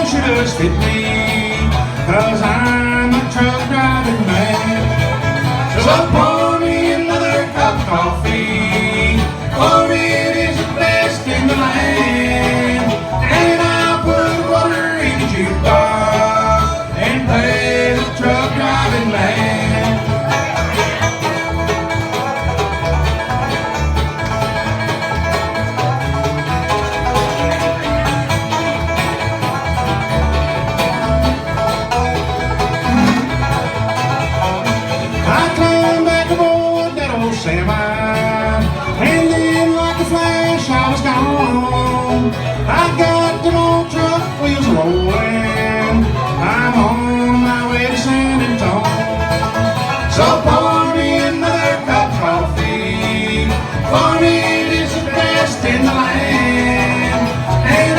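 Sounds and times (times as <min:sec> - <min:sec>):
banjo: 0:00.0 - 0:57.9
bass beat: 0:00.0 - 0:57.9
guitar: 0:00.0 - 0:57.9.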